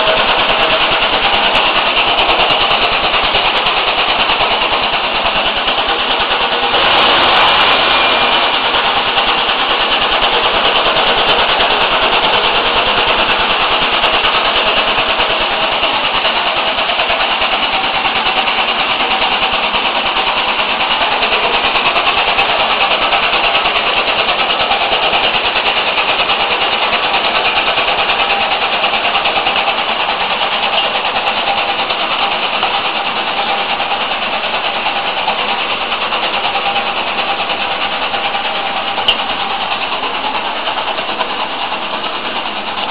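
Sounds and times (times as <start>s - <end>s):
almond cracking machine running: 0.0s - 42.9s.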